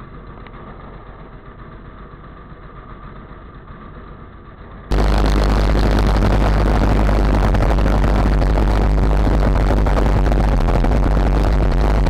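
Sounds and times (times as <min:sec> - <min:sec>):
propeller engine idling: 0:00.0 - 0:12.0.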